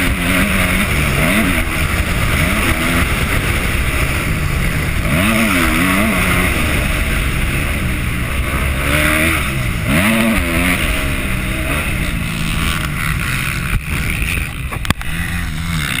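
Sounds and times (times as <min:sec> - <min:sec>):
motocross bike engine revving: 0:00.0 - 0:16.0.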